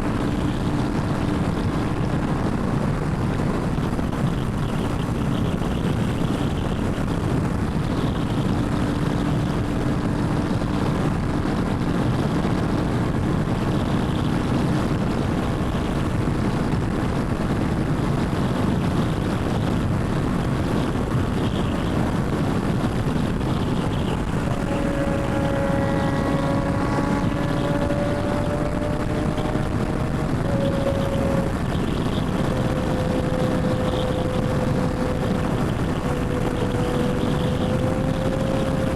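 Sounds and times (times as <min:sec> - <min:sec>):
motorcycle engine droning: 0:00.0 - 0:38.9
wind and road rush: 0:00.0 - 0:38.9.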